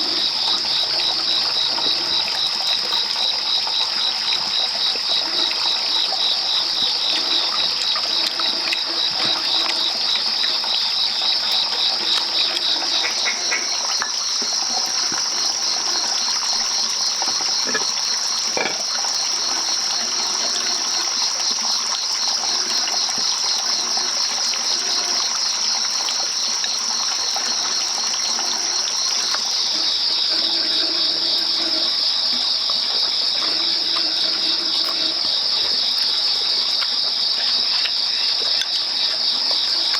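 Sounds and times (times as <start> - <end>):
insects chirring: 0.0 - 39.9
soft lower insect calls: 0.0 - 39.9.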